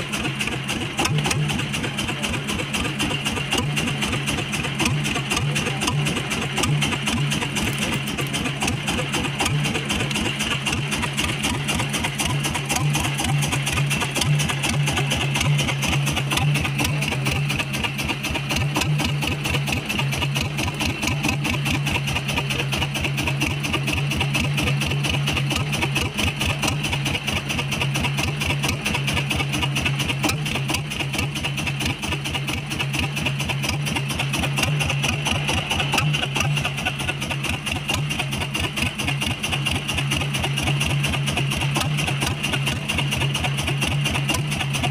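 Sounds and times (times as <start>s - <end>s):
boat engine throbbing: 0.0s - 44.9s.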